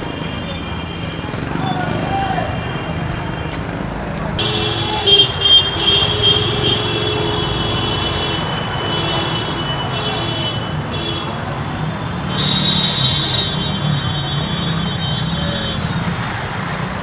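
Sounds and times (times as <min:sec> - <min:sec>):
traffic rumble on wet road: 0:00.0 - 0:17.0.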